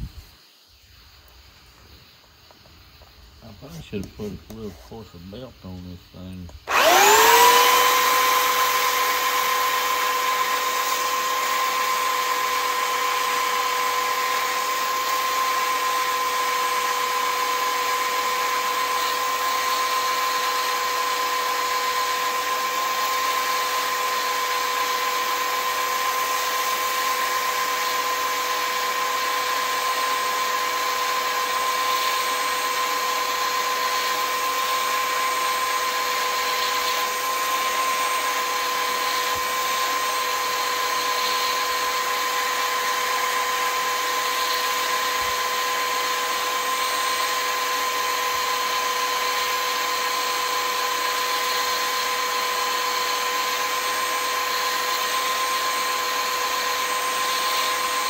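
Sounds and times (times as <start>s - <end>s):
belt sander motor humming: 2.0s - 58.0s.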